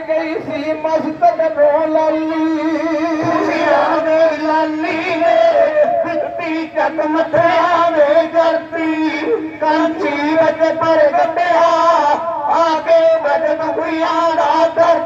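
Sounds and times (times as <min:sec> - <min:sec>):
men singing a devotional hymn: 0:00.0 - 0:15.0.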